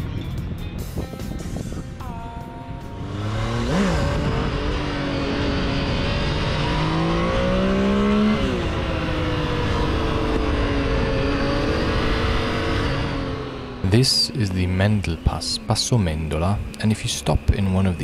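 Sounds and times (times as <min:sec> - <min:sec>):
motorcycle engine revving: 0:02.8 - 0:18.0.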